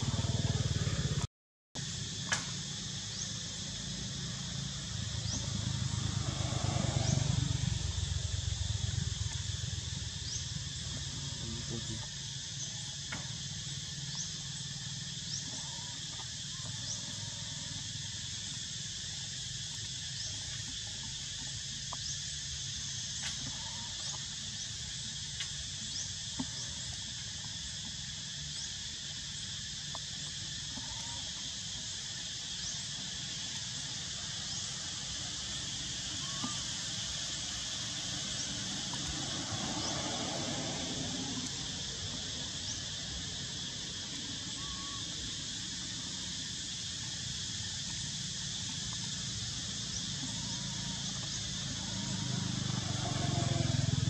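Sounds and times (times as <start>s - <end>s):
insect chorus buzzing: 0.0s - 54.0s.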